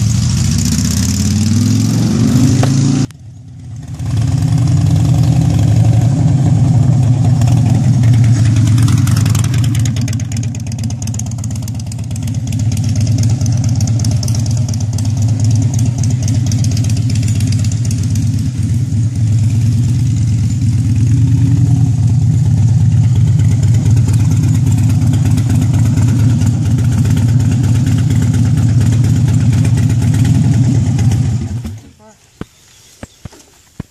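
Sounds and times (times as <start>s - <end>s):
motorcycle engine idling and riding: 0.0s - 33.9s.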